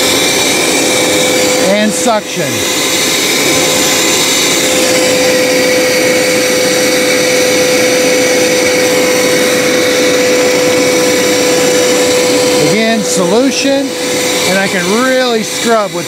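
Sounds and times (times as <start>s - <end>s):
carpet cleaner suction motor running: 0.0s - 16.0s.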